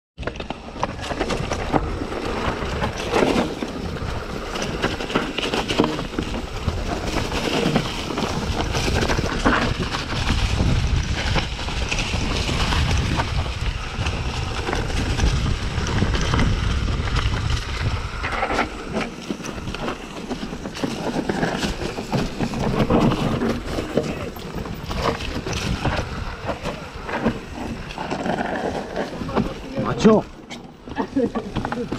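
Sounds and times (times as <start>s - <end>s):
wind buffeting microphone: 0.6s - 31.9s.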